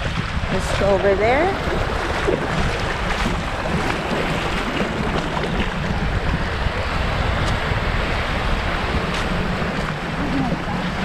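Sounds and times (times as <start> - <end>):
waves washing on beach: 0.0 - 11.0
wind rumbling on microphone: 0.0 - 11.0.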